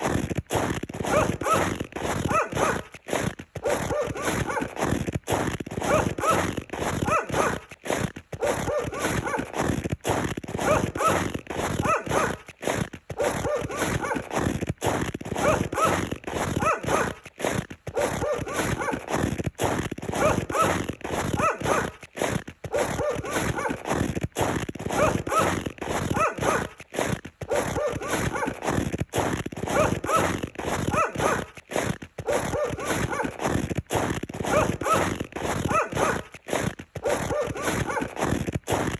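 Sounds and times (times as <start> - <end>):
footsteps crunching in snow: 0.0 - 38.9.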